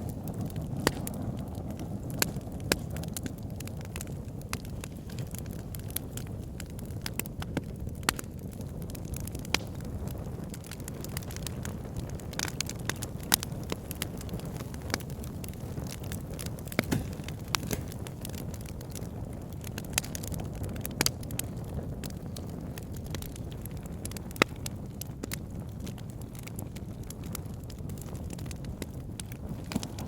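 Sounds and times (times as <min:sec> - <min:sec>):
burning wood crackling: 0:00.0 - 0:30.0
campfire flames rumbling: 0:00.0 - 0:30.0.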